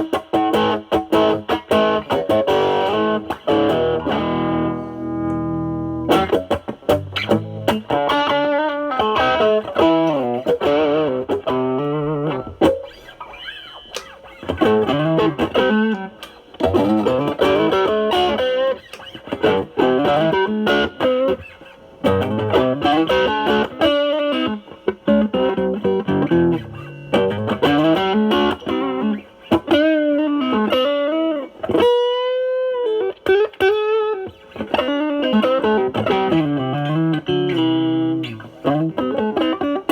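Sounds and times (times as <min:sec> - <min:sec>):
electric guitar blues lead: 0:00.0 - 0:39.9.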